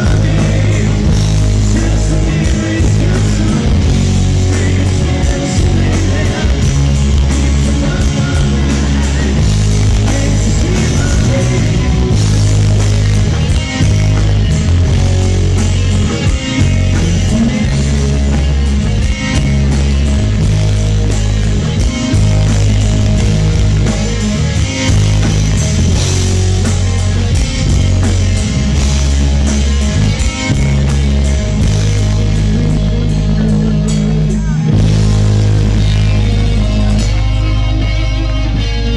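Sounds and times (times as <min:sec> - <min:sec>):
bass guitar: 0:00.0 - 0:38.9
drums: 0:00.0 - 0:38.9
electric guitars: 0:00.0 - 0:38.9.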